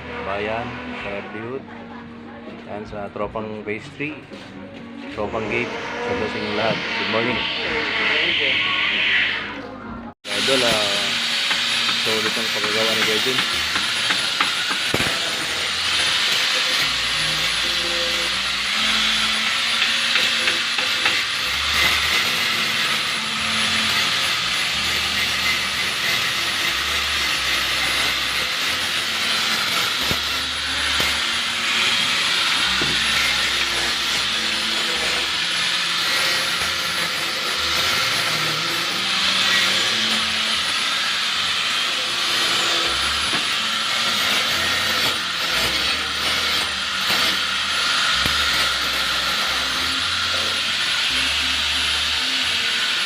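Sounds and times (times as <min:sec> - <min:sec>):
harsh hissing of metalworking tools: 0:05.2 - 0:09.6, 0:10.2 - 0:53.0.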